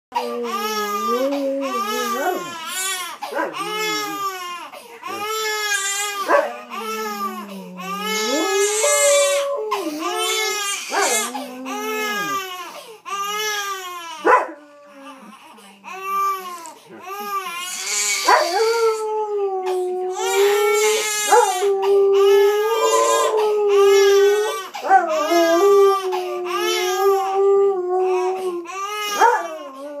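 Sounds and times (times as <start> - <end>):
baby crying: 0.1 - 30.0
dog howling: 0.2 - 4.4, 5.1 - 12.6, 17.1 - 30.0.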